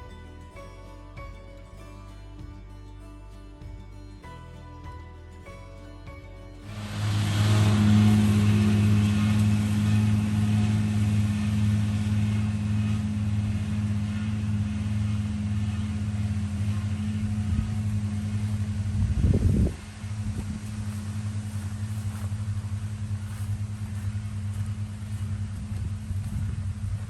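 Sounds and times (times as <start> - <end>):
motor humming: 0.0 - 27.0.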